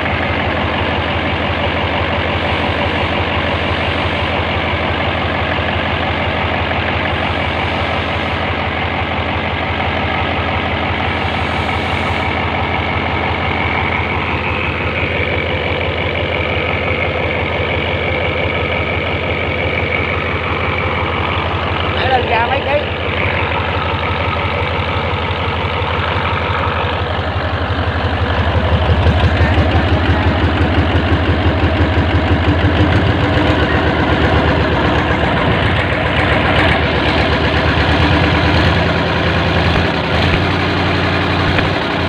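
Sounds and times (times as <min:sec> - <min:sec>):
diesel engine clattering: 0:00.0 - 0:42.0.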